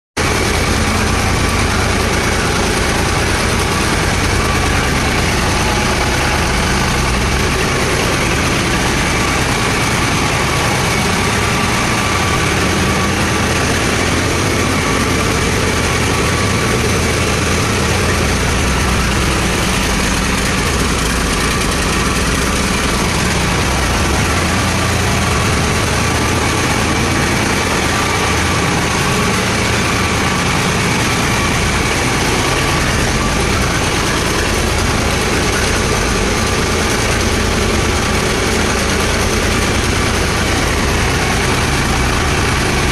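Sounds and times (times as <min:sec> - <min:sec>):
diesel engine idling: 0:00.2 - 0:42.9.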